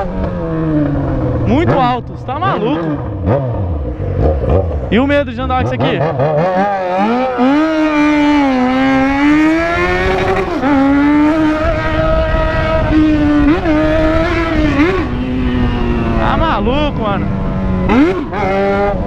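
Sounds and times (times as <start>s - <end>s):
loud motorcycle engine: 0.0s - 19.0s.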